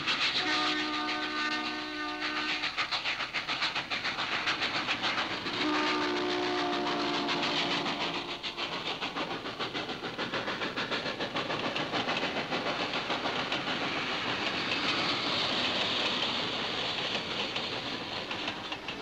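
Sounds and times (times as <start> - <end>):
freight train wheels clicking: 0.0 - 19.0
hiss: 0.0 - 19.0.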